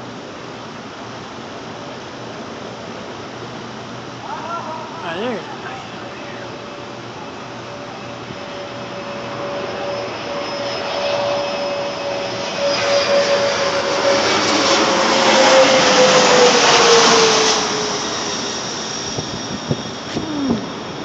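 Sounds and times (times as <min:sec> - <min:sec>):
jet engine whine: 0:00.0 - 0:21.0
jet airliner passing overhead: 0:00.2 - 0:21.0.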